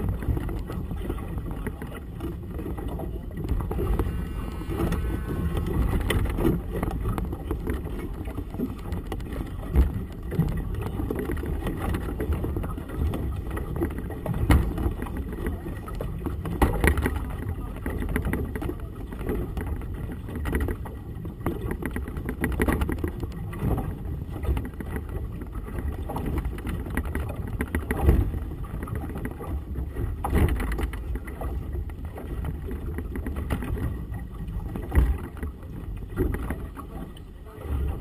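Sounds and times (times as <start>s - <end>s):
water slapping boat hull: 0.0s - 38.0s
wind buffeting microphone: 0.0s - 38.0s.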